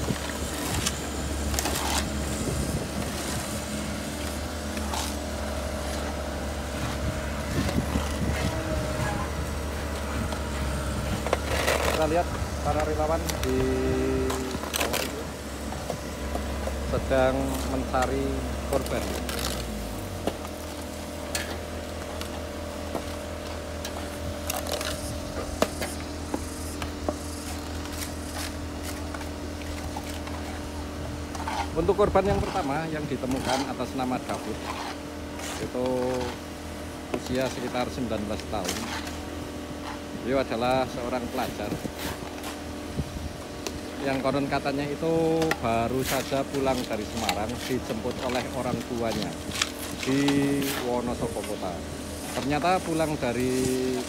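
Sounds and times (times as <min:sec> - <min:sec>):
shovels scraping in wet mud: 0:00.0 - 0:42.7, 0:43.6 - 0:54.0
excavator diesel engine running: 0:00.0 - 0:54.0.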